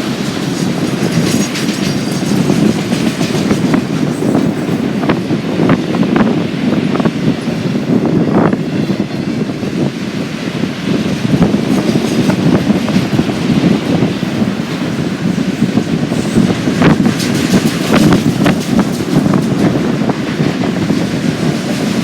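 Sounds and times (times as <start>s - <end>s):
wheels clacking over rail joints: 0.0s - 7.6s, 10.5s - 22.0s
freight train rumbling past: 0.0s - 22.0s.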